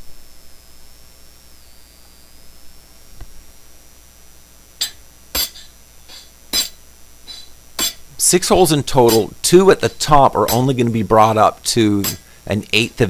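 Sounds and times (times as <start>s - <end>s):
faint steady hiss: 0.0s - 13.0s
thin high whine: 0.0s - 13.0s.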